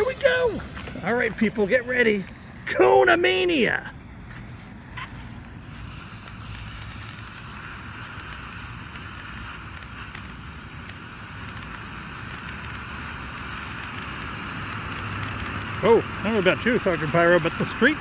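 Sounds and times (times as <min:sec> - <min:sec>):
fountain fireworks hissing: 0:00.0 - 0:18.0.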